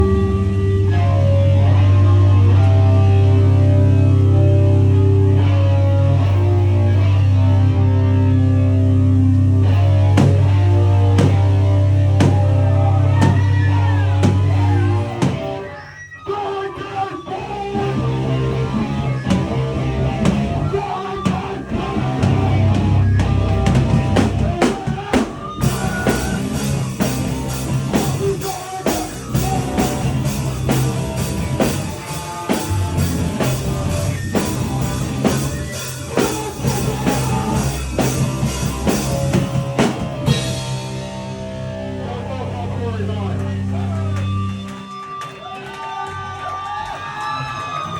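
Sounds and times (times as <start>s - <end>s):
drum kit: 0.0s - 15.8s, 17.8s - 45.6s
distorted guitar: 0.0s - 45.7s
bass guitar: 0.0s - 46.4s.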